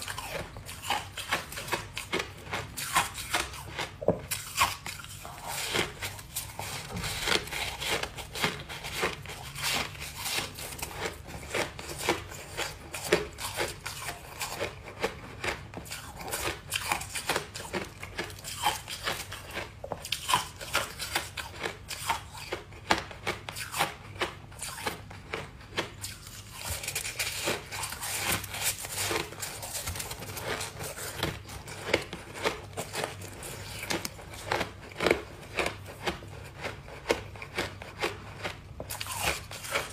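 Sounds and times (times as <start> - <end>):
chewing ice crunches: 0.0 - 39.9.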